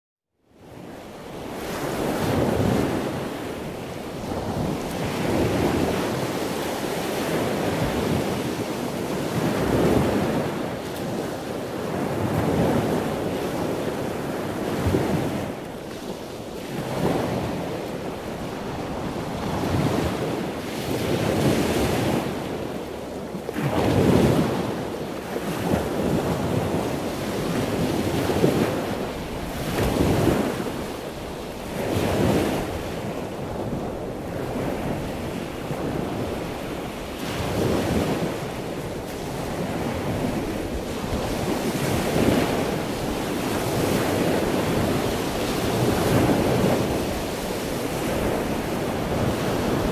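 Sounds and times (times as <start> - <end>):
wind on microphone: 0.5 - 49.9
surf breaking on beach: 0.8 - 49.9.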